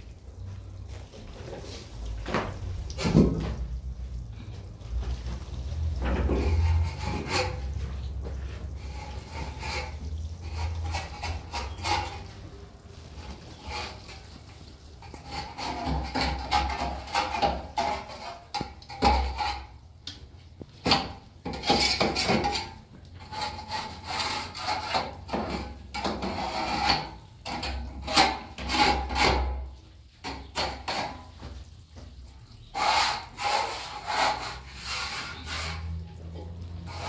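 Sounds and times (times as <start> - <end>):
tool scraping plastered wall: 0.0 - 37.0.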